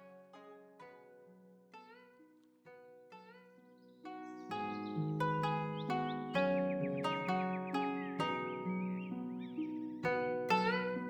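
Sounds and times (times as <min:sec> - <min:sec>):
plucked string instrument music: 0:00.0 - 0:11.0.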